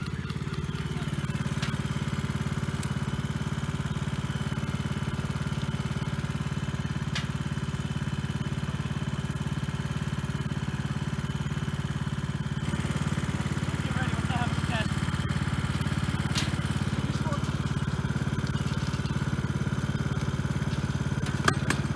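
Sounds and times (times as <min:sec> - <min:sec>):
lawn mower engine running: 0:00.0 - 0:21.9.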